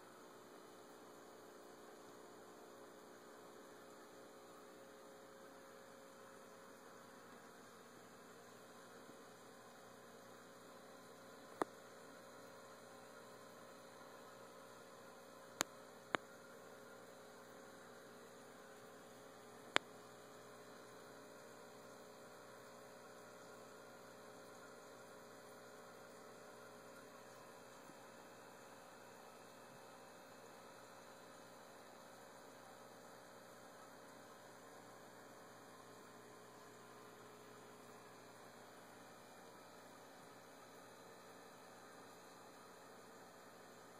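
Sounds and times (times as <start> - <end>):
faint electrical hum: 0.0 - 43.9.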